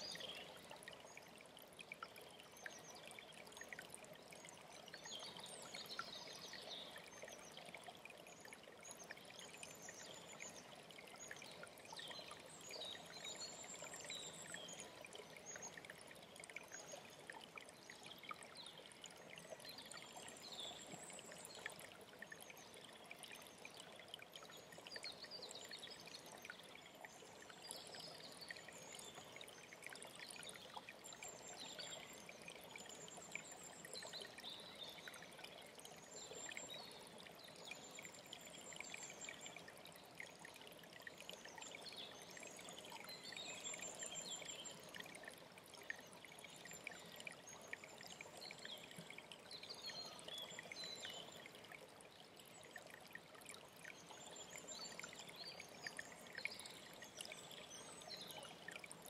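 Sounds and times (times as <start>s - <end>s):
stream trickling and splashing: 0.0s - 59.0s.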